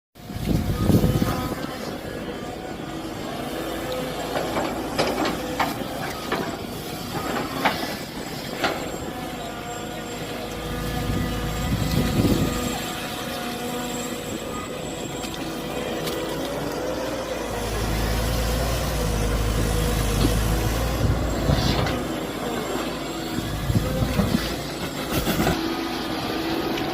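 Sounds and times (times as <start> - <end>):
excavator engine running: 0.2 - 26.9.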